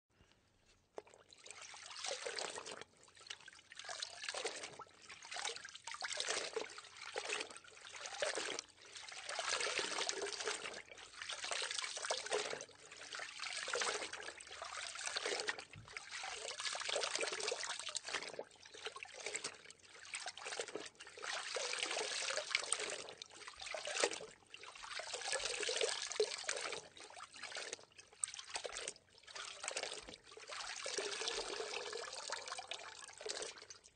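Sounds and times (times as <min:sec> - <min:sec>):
water trickling and pouring: 0:01.0 - 0:33.9.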